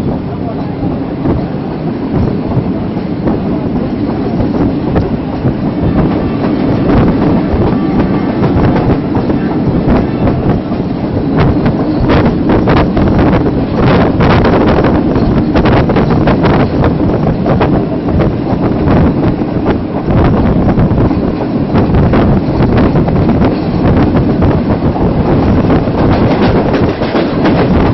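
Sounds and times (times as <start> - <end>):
wind rushing over microphone: 0.0 - 27.9
train wheels knocking on rail joints: 1.3 - 27.9.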